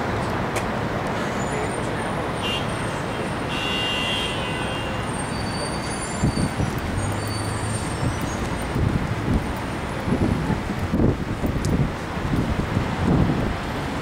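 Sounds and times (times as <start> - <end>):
city traffic noise: 0.0 - 14.0.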